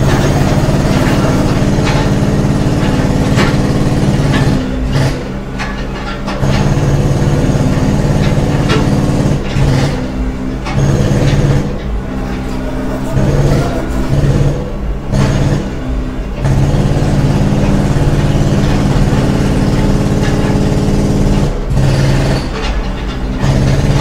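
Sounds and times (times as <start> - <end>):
large machinery engine running: 0.0 - 24.0.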